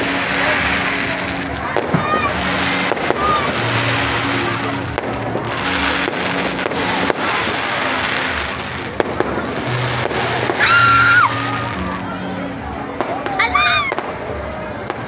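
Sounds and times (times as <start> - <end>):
fireworks shells bursting: 0.0 - 12.1
fireworks crackling: 0.0 - 15.0.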